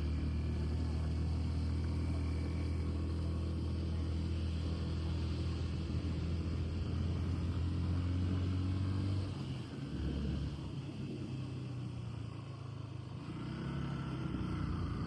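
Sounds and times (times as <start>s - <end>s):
road rumble: 0.0s - 15.0s
vehicle engine hum: 0.0s - 15.0s.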